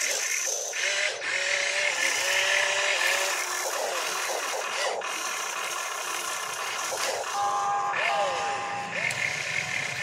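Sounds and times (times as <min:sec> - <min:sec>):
small electric motors whining: 0:00.0 - 0:10.0.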